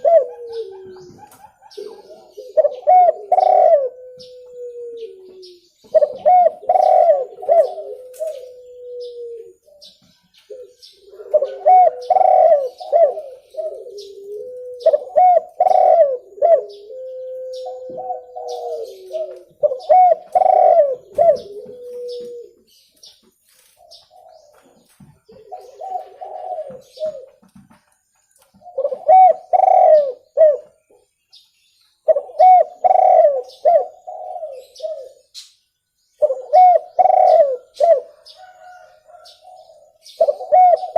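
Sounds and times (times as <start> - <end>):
doves cooing: 0.0 - 22.8, 23.8 - 27.7, 28.6 - 30.8, 32.0 - 35.4, 36.2 - 40.9.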